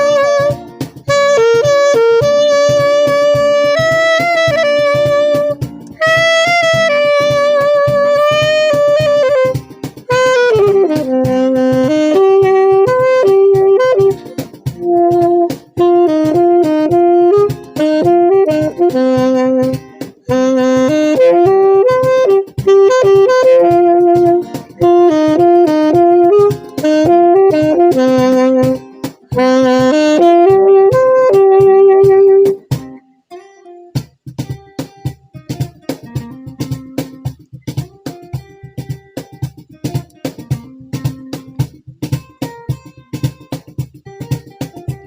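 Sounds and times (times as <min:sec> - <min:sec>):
saxophone melody: 0:00.0 - 0:43.8
strummed guitar: 0:00.0 - 0:45.0.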